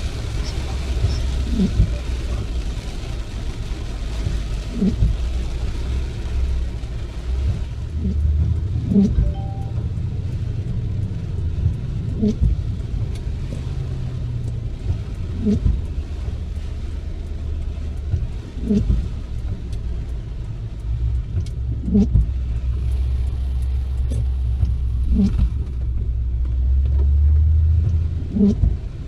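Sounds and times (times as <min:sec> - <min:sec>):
rain: 0:00.0 - 0:29.0
road and engine rumble: 0:00.0 - 0:29.0
windshield wipers groaning: 0:00.0 - 0:29.0.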